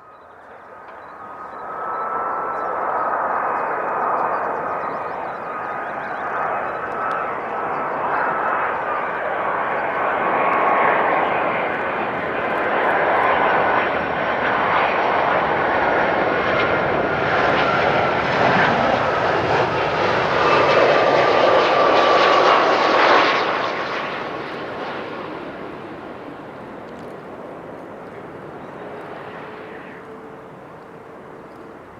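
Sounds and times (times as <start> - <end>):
jet engine high whine: 0.0 - 31.9
jet engines roaring: 0.3 - 31.9.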